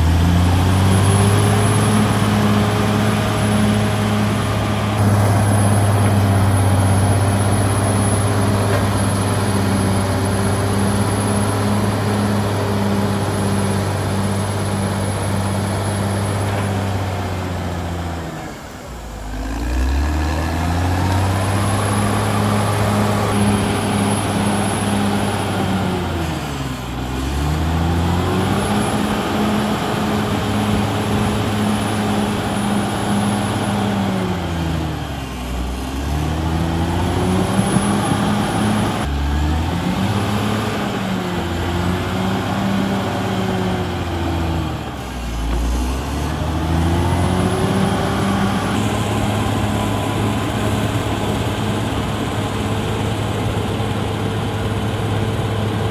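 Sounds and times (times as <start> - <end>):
bulldozer diesel engine under load: 0.0 - 55.9.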